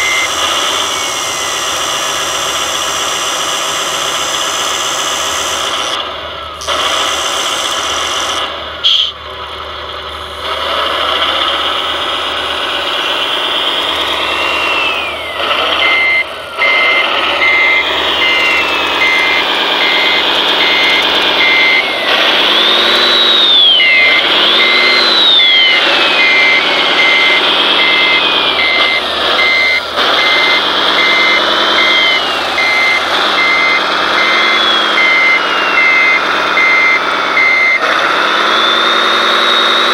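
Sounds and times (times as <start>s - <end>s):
reversing alarm beeping: 0.0s - 9.2s, 10.2s - 39.9s
simulated diesel engine revving: 0.0s - 39.9s.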